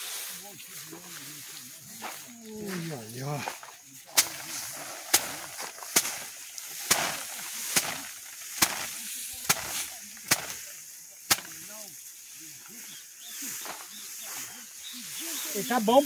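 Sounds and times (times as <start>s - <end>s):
rice stalks whacking wooden frame: 2.0s - 16.0s.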